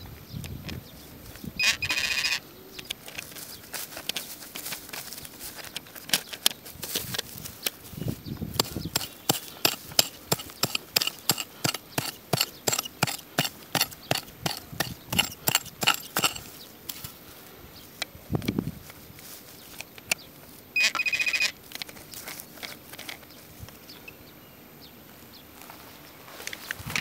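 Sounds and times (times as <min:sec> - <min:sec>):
dry grass crackling: 0:00.9 - 0:24.0, 0:25.1 - 0:27.0.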